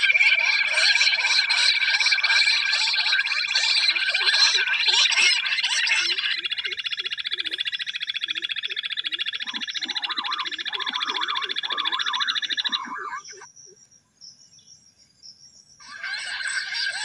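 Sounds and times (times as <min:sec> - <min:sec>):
quail pulsing trill: 0:00.0 - 0:13.8, 0:15.8 - 0:17.0
soft low curving bird calls: 0:00.0 - 0:13.8.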